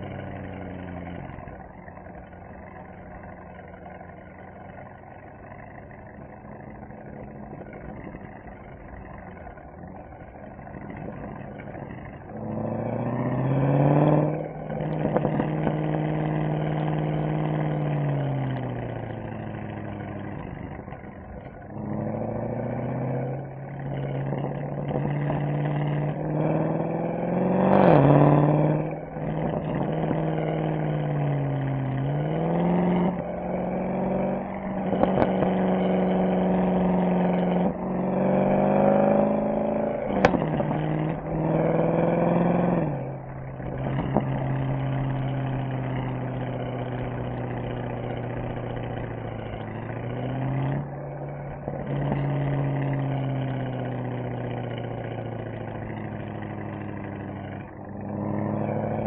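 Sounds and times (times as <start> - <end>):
car engine and exhaust accelerating: 0.0 - 59.0.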